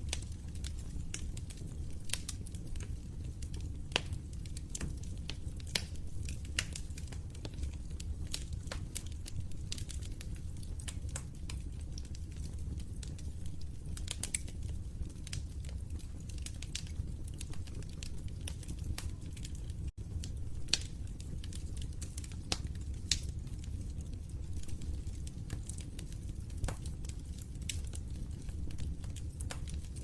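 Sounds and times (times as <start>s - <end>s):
fire crackling in fireplace: 0.0s - 30.0s.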